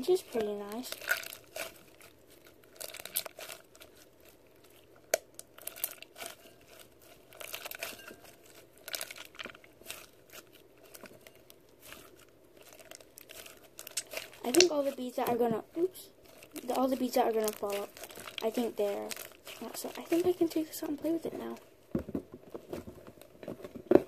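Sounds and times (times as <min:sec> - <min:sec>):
slime squeezed crunching: 0:00.0 - 0:21.6.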